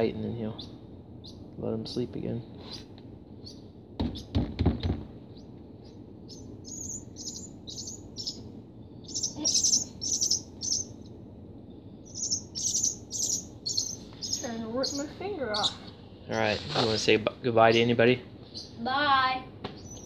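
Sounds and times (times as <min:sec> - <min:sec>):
swallow nestling chirping: 0:00.0 - 0:20.0.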